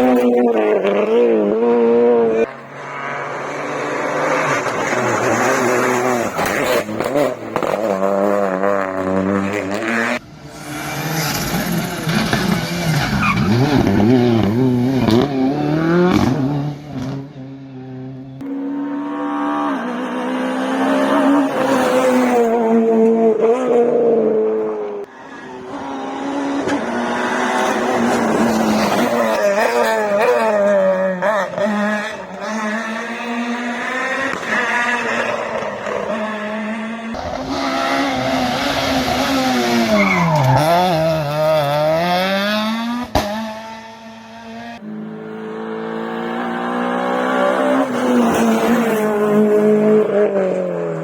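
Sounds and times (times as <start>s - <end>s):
rally car engines revving: 0.0s - 51.0s.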